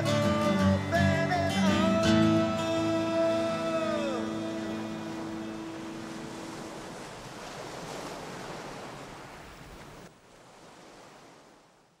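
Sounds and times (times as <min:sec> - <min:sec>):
ocean surf washing on beach: 0:01.8 - 0:11.9.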